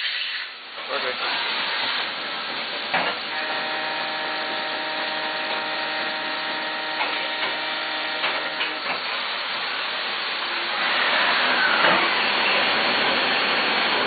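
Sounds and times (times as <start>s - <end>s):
milling machine whine: 1.1s - 14.0s.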